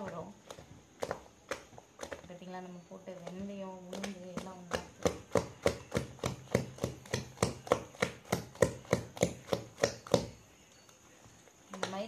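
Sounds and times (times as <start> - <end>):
hand slapping wet batter: 0.0 - 2.4, 3.1 - 10.4, 11.7 - 12.0.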